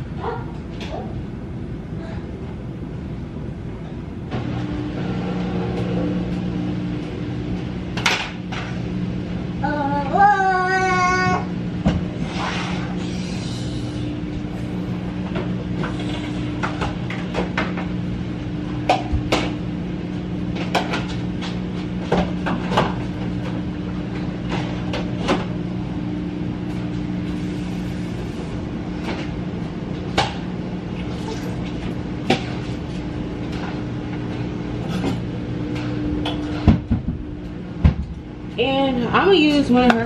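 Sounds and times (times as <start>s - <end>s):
steady appliance hum: 0.0s - 40.0s.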